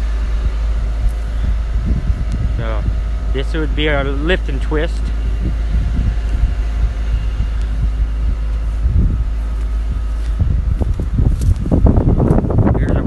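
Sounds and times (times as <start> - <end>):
faint machine hum: 0.0 - 13.0
wind buffeting microphone: 0.0 - 13.0.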